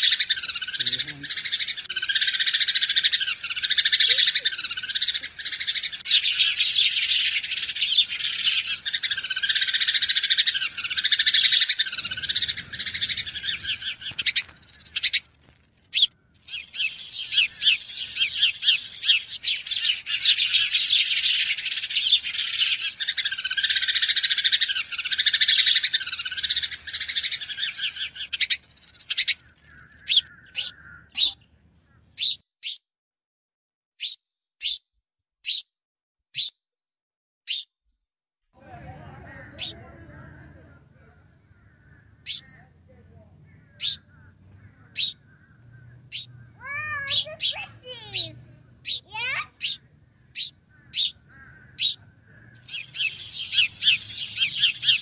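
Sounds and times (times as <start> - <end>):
birds chirping: 0.0 - 32.8, 38.6 - 55.0.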